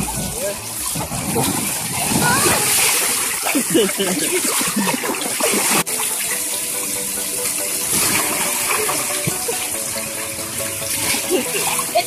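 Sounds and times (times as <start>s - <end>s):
water gushing and spraying: 0.0s - 12.0s.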